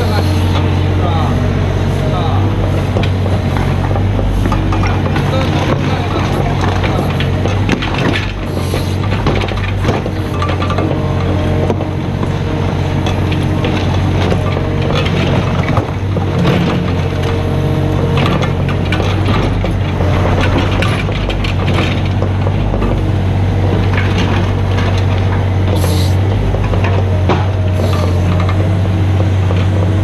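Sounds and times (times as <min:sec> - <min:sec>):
diesel engine running: 0:00.0 - 0:30.0
excavator bucket knocks and scraping: 0:01.6 - 0:30.0.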